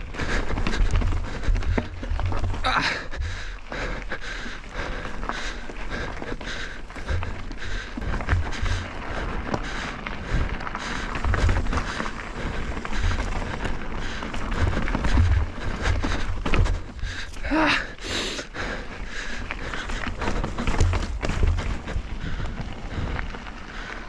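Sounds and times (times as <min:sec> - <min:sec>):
bike knocking and rattling: 0:00.0 - 0:24.0
bike tyres crunching over rock: 0:00.0 - 0:24.0.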